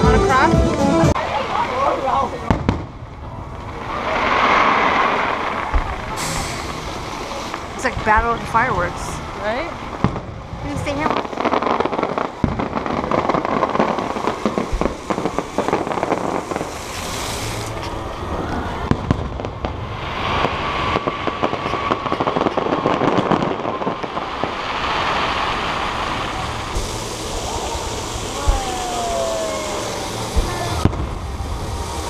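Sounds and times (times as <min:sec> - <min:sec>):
fireworks popping and crackling: 0:00.0 - 0:32.0.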